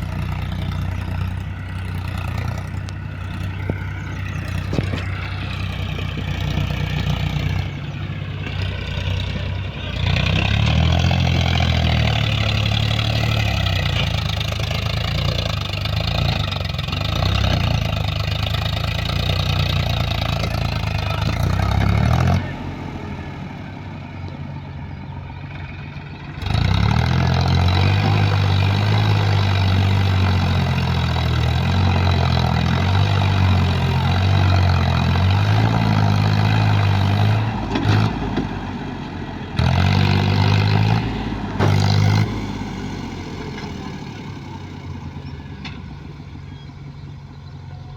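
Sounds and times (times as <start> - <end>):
diesel engines working: 0.0 - 47.9.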